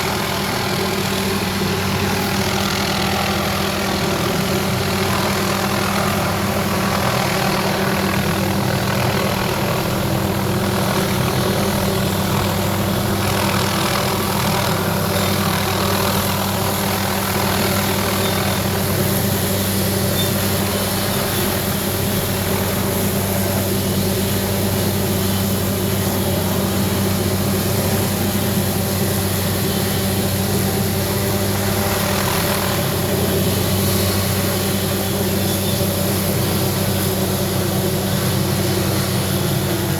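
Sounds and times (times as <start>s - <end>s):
steady engine drone: 0.0s - 39.9s.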